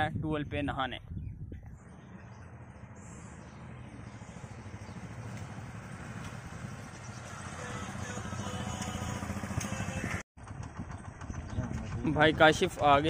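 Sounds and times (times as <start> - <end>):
small motorcycles running: 1.8 - 13.0.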